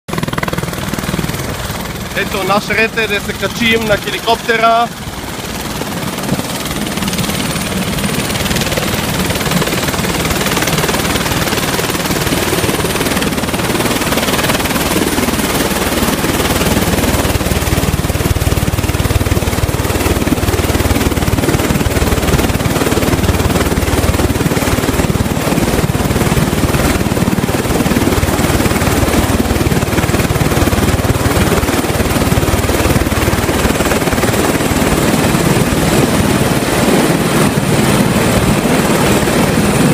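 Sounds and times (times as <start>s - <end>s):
helicopter rotor and engine: 0.1s - 39.9s.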